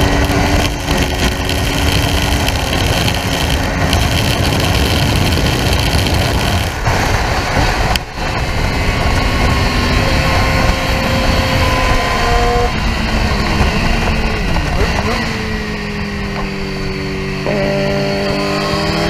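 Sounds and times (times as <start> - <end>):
motorcycle engine at speed: 0.0 - 19.0
wind rush on microphone: 0.0 - 19.0.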